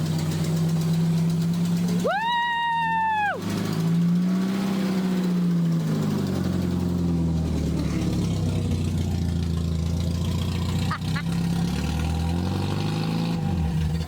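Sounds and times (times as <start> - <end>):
car engine running loud: 0.0 - 14.0.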